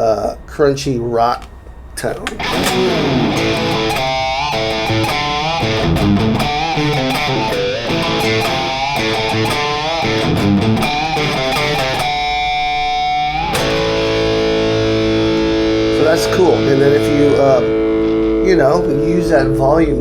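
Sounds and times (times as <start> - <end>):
electric guitar rock riff: 1.4 - 20.0.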